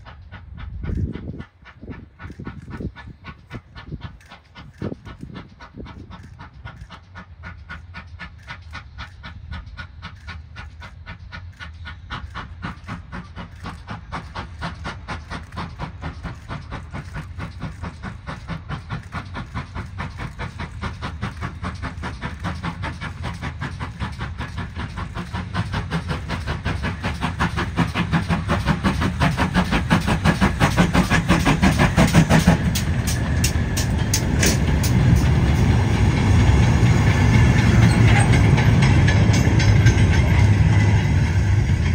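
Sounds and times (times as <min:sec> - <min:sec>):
steam locomotive exhaust beats: 0:00.0 - 0:41.9
wagons clattering over rail joints: 0:00.4 - 0:41.9.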